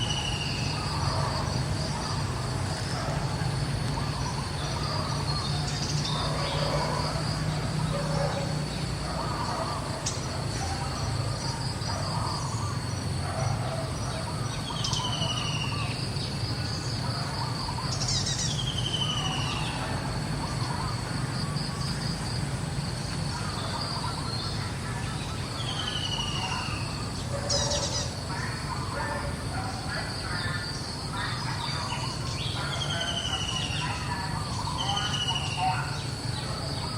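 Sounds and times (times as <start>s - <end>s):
insect drone: 0.0s - 36.9s.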